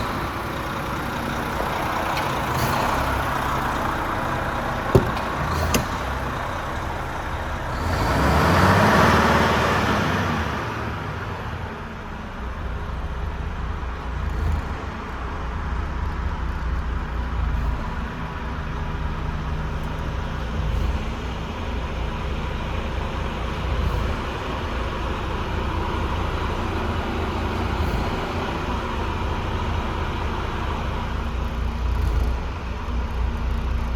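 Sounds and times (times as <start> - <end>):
diesel engine rumbling: 0.0 - 33.9.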